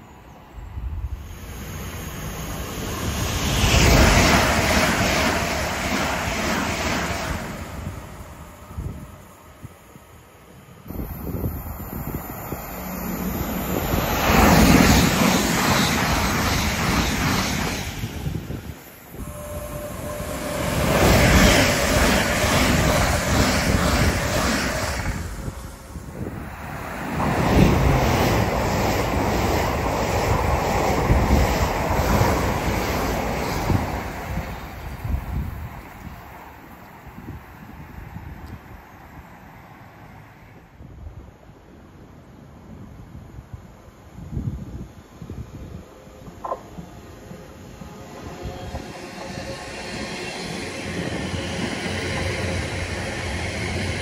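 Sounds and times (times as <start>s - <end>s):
electric train approaching: 0.0s - 38.3s, 45.1s - 54.0s
electric train passing at speed: 0.0s - 54.0s.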